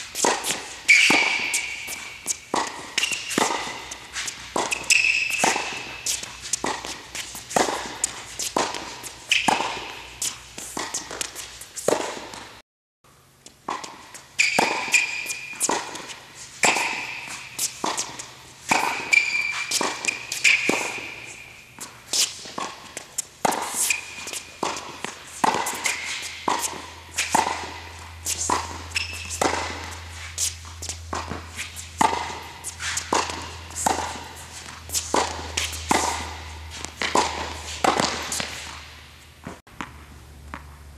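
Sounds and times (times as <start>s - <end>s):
racket striking tennis ball: 0.0s - 12.6s, 13.6s - 40.9s
shoes squeaking on court: 0.0s - 12.6s, 13.4s - 40.9s
tennis ball bouncing: 0.0s - 12.6s, 13.4s - 40.9s.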